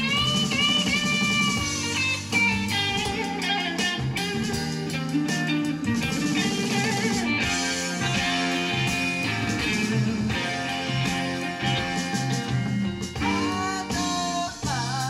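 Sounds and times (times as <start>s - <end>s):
blues-rock guitar music: 0.0s - 15.0s.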